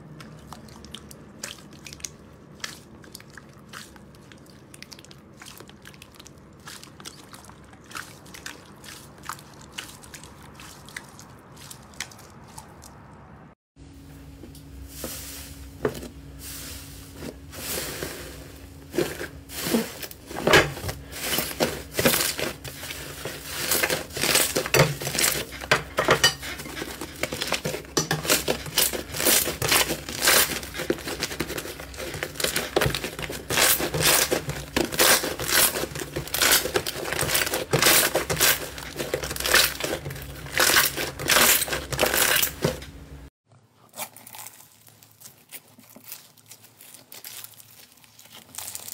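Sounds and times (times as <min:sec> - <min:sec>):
slime crackling and squelching: 0:00.0 - 0:13.2, 0:16.8 - 0:42.9, 0:43.7 - 0:48.9.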